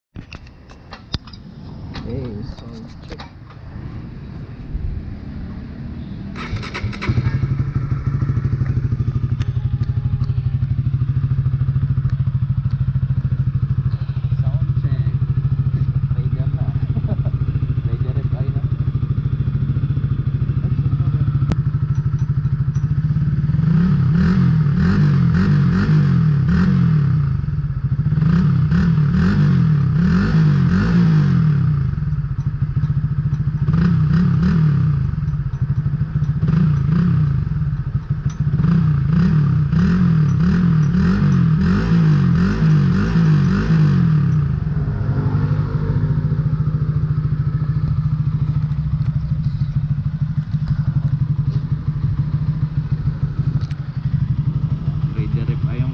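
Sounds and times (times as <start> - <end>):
motorcycle engine revving: 0.3 - 55.9.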